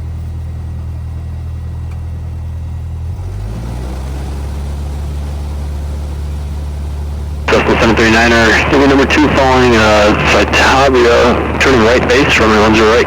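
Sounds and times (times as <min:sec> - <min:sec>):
airplane engine and propeller: 0:00.0 - 0:13.0.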